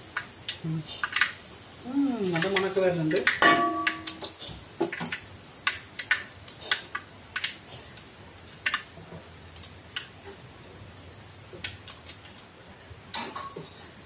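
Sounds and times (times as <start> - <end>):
spice seeds popping in hot oil: 0.0 - 13.6.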